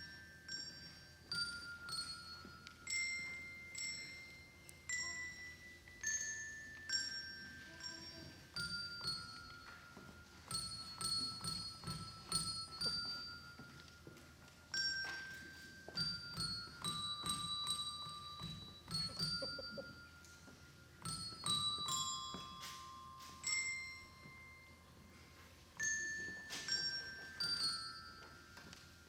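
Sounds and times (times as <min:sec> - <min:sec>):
handbell choir playing melody: 0:00.0 - 0:29.0.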